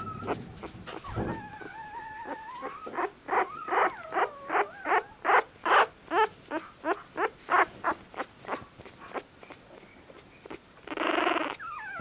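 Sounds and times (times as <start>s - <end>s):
puppy squealing: 0.0s - 12.0s.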